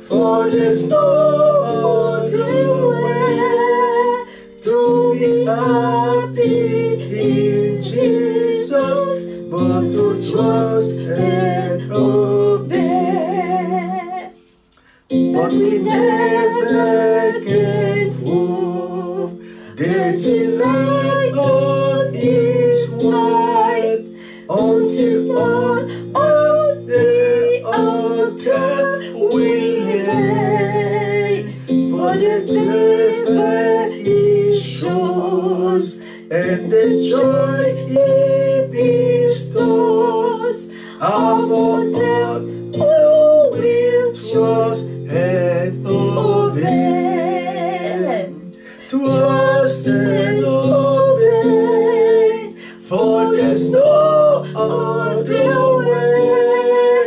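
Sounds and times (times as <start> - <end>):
man and woman singing a hymn: 0.0 - 57.0.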